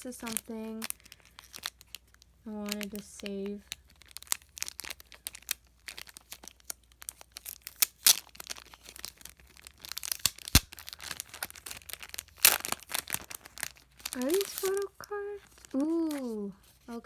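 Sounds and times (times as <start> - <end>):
packaging tearing and crackling: 0.0 - 17.0.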